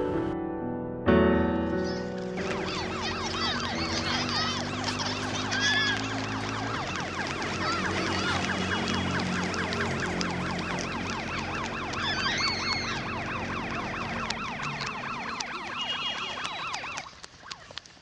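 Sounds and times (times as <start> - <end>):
warbling siren-like tones: 2.4 - 17.6.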